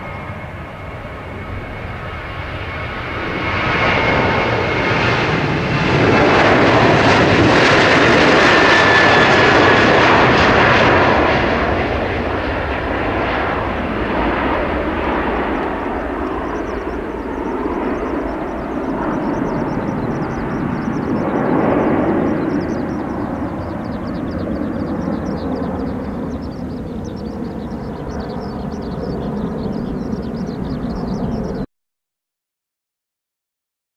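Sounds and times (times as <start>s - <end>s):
jet airliner taking off: 0.0s - 31.7s.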